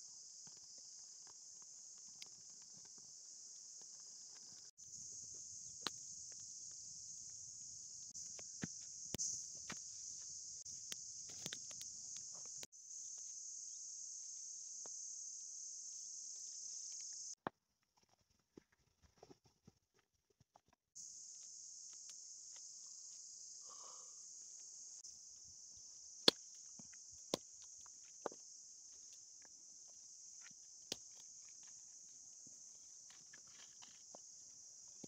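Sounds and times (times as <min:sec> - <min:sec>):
insects buzzing: 0:00.0 - 0:17.4, 0:21.0 - 0:35.0.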